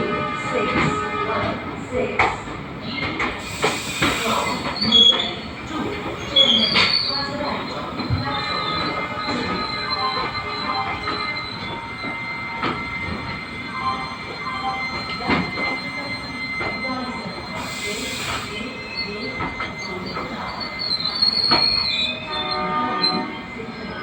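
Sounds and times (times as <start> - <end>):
train wheels squealing on rails: 2.3 - 24.0.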